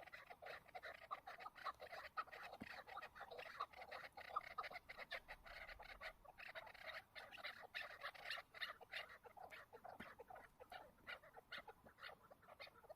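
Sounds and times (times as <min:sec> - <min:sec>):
partridges calling: 0:00.0 - 0:12.9.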